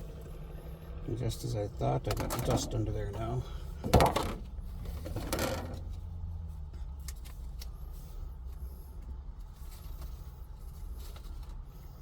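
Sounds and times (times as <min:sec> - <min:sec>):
low hum inside truck cab: 0:00.0 - 0:12.0.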